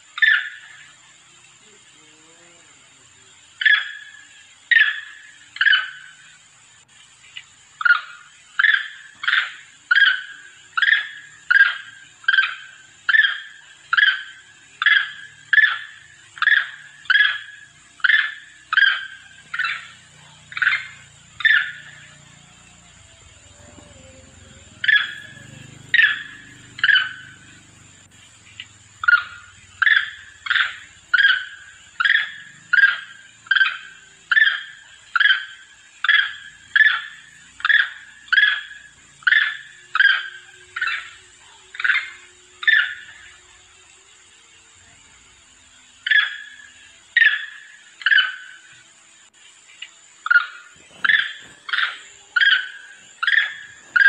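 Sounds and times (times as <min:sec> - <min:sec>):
monkey calls: 0:00.0 - 0:01.0, 0:03.4 - 0:06.4, 0:07.4 - 0:43.4, 0:46.0 - 0:48.7, 0:50.3 - 0:54.0.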